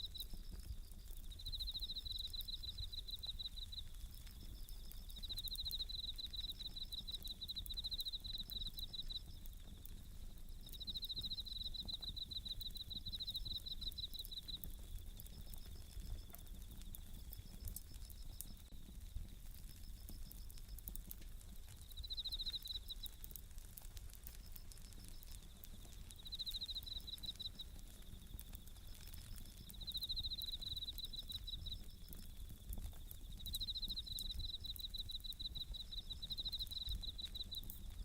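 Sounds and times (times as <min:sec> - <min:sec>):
campfire crackles: 0:00.0 - 0:38.0
crickets trilling: 0:00.0 - 0:38.0.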